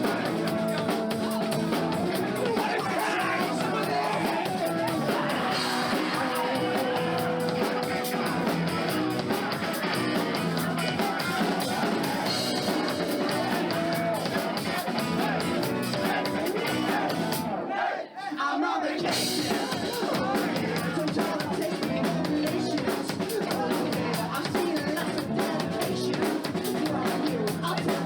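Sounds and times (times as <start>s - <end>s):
live rock band playing: 0.0s - 17.6s, 19.1s - 28.0s.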